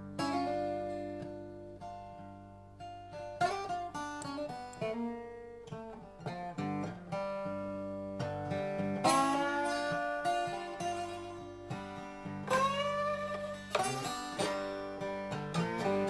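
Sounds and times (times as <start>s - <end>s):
resonator slide guitar playing: 0.0s - 16.0s.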